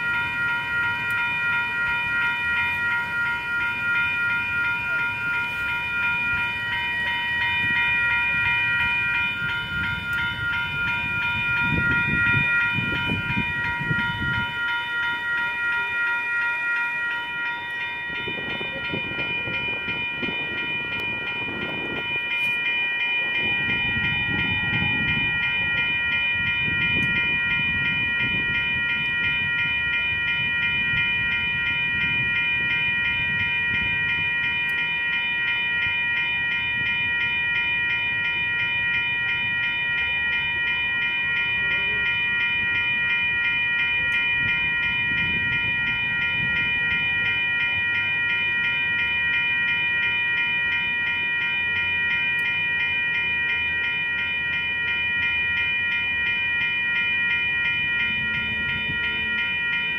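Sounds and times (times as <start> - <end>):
railroad crossing bells ringing: 0.0 - 59.9.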